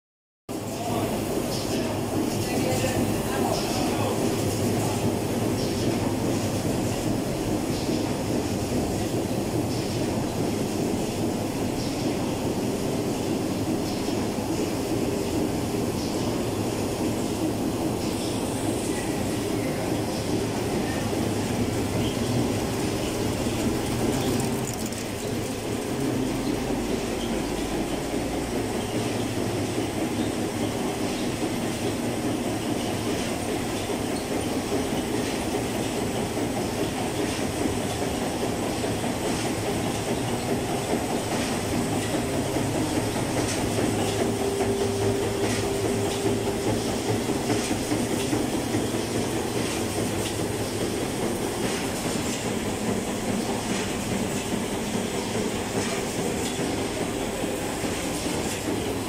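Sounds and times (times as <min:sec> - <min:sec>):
production line machinery clattering: 0:00.5 - 0:59.0.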